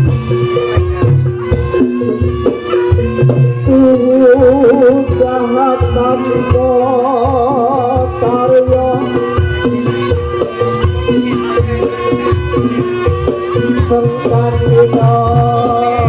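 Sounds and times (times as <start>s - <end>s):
held gamelan-like pitched tones: 0.0s - 16.0s
steady drum strokes: 0.0s - 16.0s
wavering vibrato melody: 0.2s - 16.0s.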